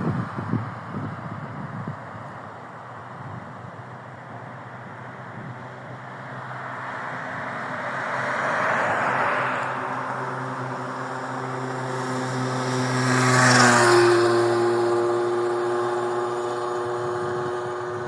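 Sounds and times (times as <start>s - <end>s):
tyre and road noise: 0.0s - 18.0s
vehicle engine hum passing: 0.0s - 18.0s.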